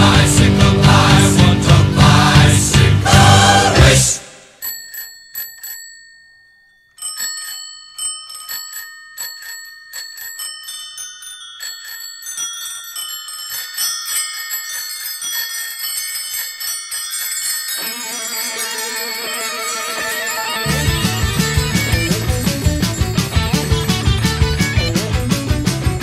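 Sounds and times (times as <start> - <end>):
bicycle bells ringing: 4.5 - 26.0.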